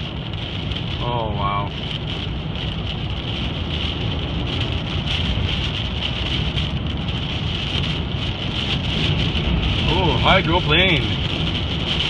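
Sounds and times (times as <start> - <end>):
heavy rain on a car: 0.0 - 12.0
vehicle rumble on wet road: 0.0 - 12.0
wind: 0.0 - 12.0.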